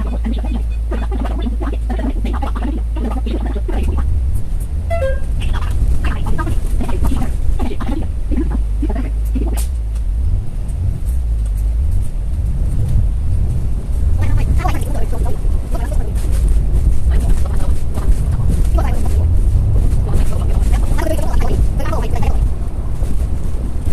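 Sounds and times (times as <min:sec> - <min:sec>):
bus engine drone: 0:00.0 - 0:23.9.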